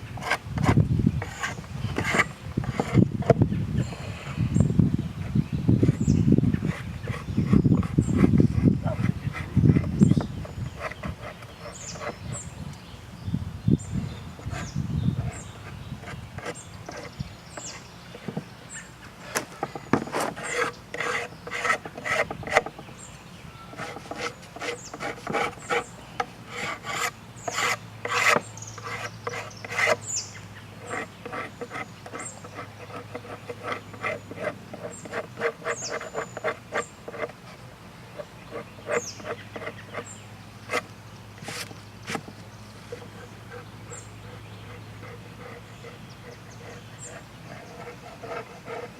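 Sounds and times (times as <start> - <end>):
hand scraper scraping wood: 0.0 - 3.5, 5.2 - 12.4, 14.4 - 23.0, 23.6 - 48.9.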